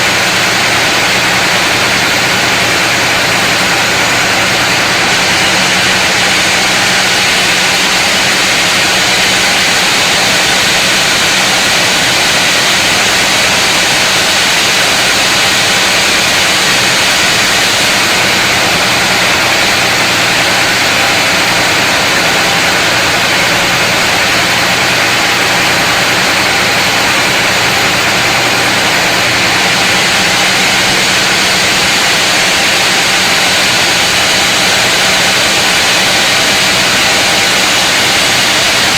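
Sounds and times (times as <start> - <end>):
powered saw cutting log: 0.0 - 38.9.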